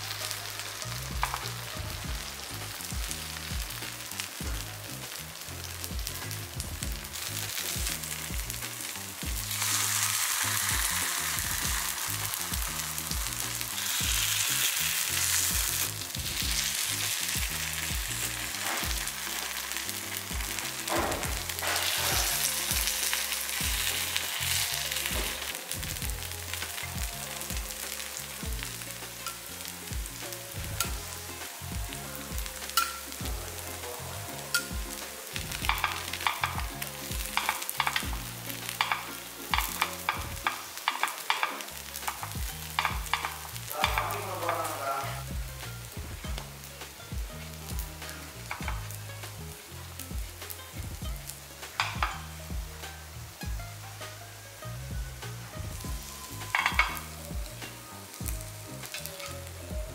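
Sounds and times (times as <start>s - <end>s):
batter sizzling in oil: 0.0s - 59.9s.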